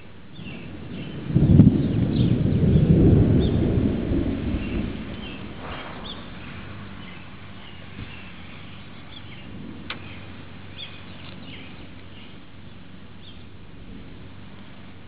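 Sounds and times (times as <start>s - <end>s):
birds chirping faintly: 0.0s - 3.7s, 4.4s - 15.0s
steady outdoor hiss: 0.0s - 15.0s
thunder rumble: 0.0s - 15.0s.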